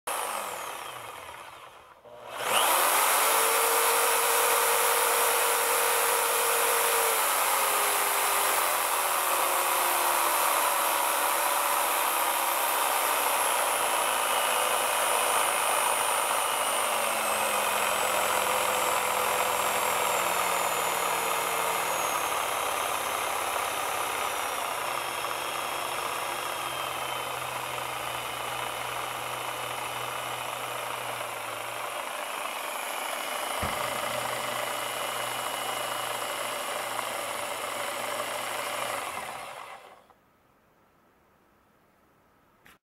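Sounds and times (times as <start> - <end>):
jigsaw motor whining: 0.0 - 40.2.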